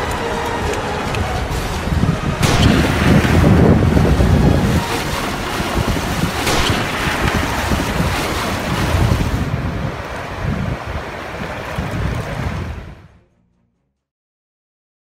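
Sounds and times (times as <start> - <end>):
wind on microphone: 0.0 - 13.2.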